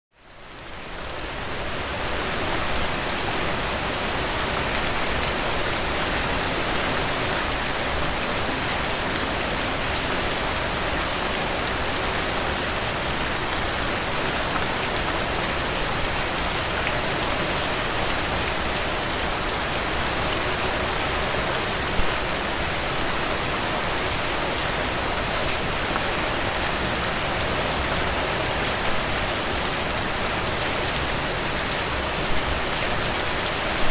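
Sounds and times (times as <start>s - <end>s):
rain falling on leaves: 0.2s - 33.9s.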